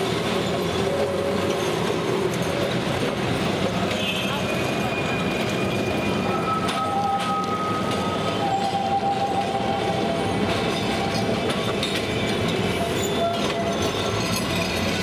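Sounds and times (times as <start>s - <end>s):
city traffic: 0.0s - 15.0s
tram wheels rumbling on rails: 0.0s - 15.0s.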